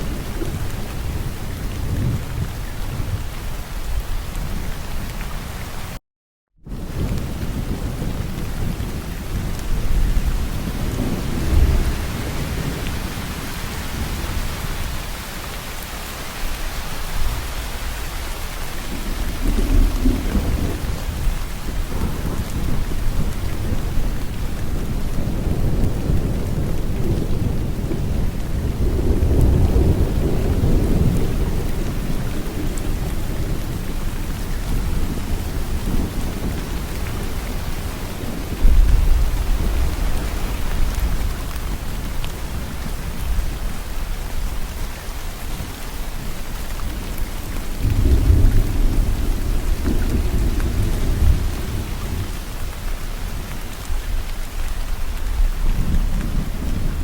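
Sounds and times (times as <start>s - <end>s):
thunder rumbling: 0.0s - 5.0s, 6.7s - 57.0s
heavy rain falling: 0.0s - 6.0s, 6.7s - 57.0s.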